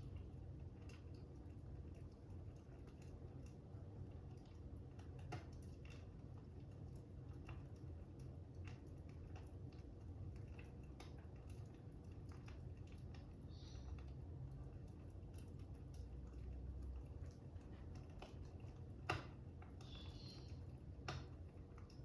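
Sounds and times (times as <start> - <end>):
fire crackling: 0.0 - 22.0
low steady rumble: 0.0 - 22.0.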